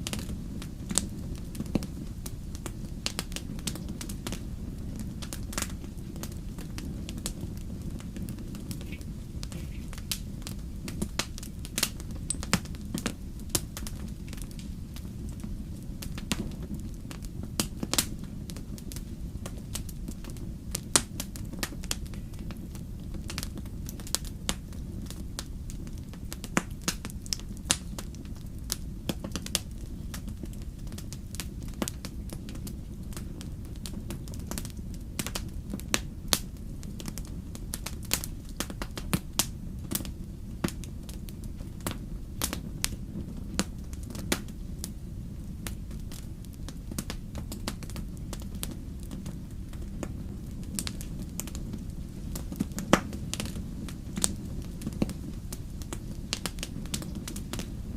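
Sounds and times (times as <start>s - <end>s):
fire crackling and popping: 0.0s - 57.9s
steady low rumble: 0.0s - 57.9s.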